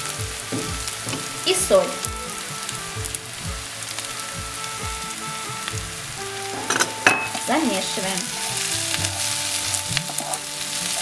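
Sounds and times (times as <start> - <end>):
background music with a beat: 0.0 - 11.0
potatoes sizzling in a frying pan: 0.0 - 11.0.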